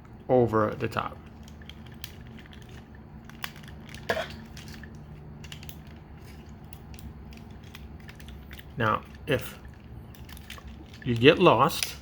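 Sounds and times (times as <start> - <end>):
steady low hum: 0.0 - 12.0
plastic toy parts clicking: 1.4 - 6.0, 6.6 - 12.0.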